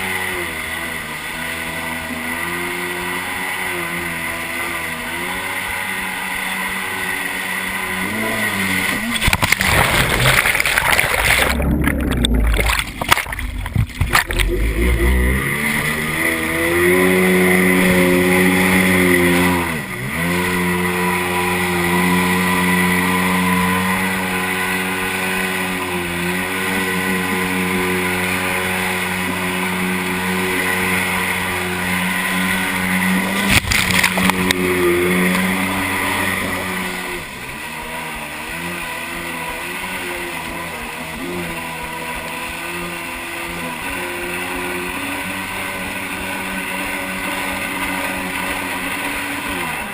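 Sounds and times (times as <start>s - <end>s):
jet ski engine running: 0.0s - 49.9s.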